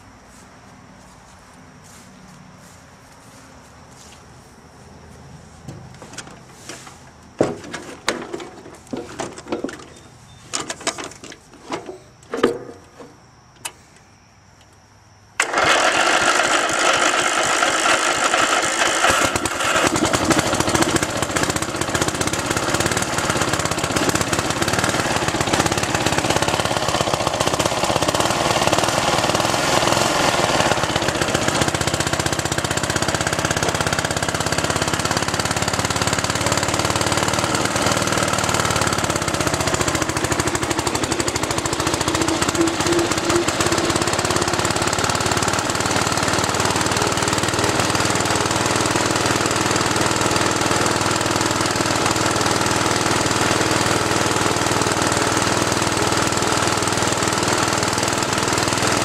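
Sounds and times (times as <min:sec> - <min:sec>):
lawnmower engine running: 0:05.4 - 0:13.2, 0:15.4 - 0:59.0.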